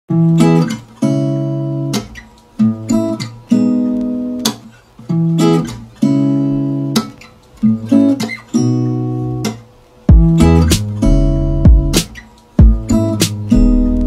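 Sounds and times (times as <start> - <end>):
acoustic guitar strumming: 0.1 - 14.0.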